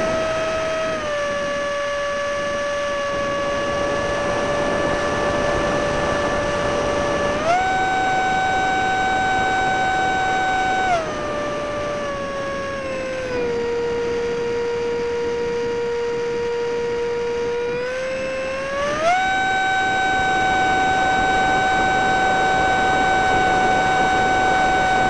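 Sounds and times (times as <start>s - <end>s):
electric fan whine: 0.0s - 25.0s.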